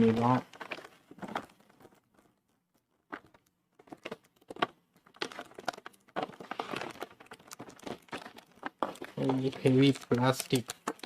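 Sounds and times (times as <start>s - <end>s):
plastic snack packet crinkling: 0.0s - 11.0s.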